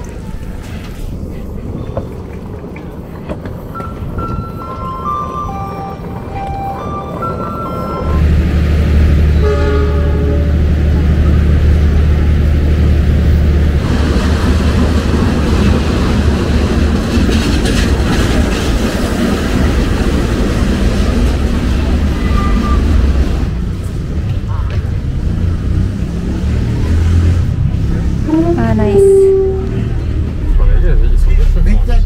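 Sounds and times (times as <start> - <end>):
train wheels rolling on rail: 0.0 - 9.5, 10.5 - 28.1
deep train engine rumble: 0.0 - 32.0.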